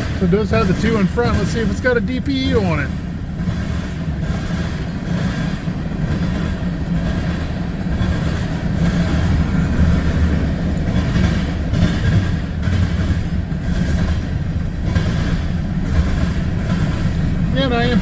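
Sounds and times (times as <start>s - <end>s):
freight train rumbling past: 0.0s - 18.0s
high wind: 0.0s - 18.0s.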